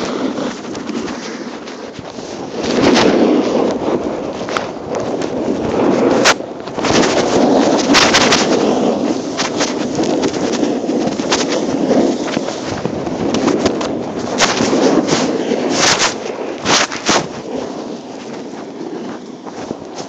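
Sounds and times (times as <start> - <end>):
sharp clicks and cracks: 0.0 - 20.0.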